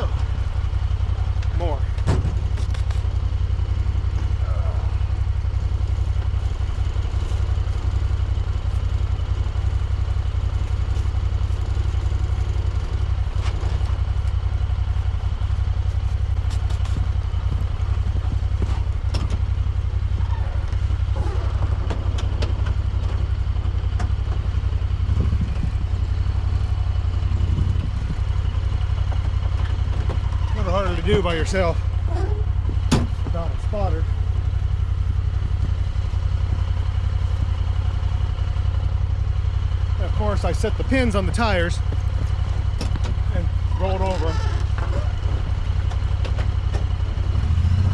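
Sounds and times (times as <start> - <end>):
vehicle engine idling: 0.0 - 47.9.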